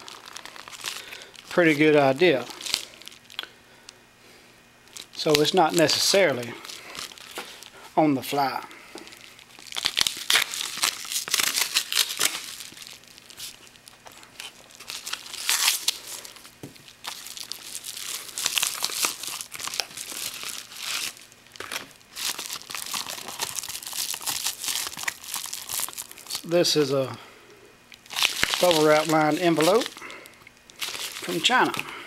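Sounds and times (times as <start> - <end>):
paper and plastic crinkling and tearing: 0.0 - 3.5, 4.9 - 7.8, 9.0 - 26.8, 28.0 - 32.0.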